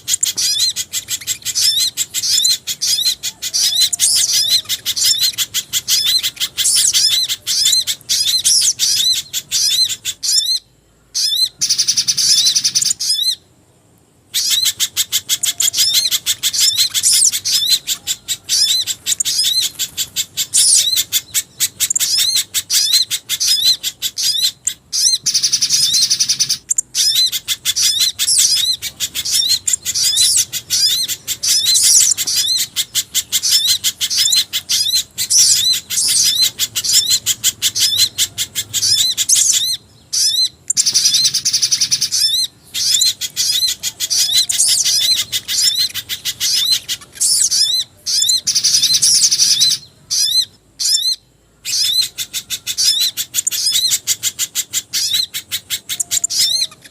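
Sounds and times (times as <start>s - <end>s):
rising and falling bird whistles: 0.0s - 13.4s, 14.4s - 56.9s
high bird twittering: 0.0s - 13.5s, 14.3s - 56.9s.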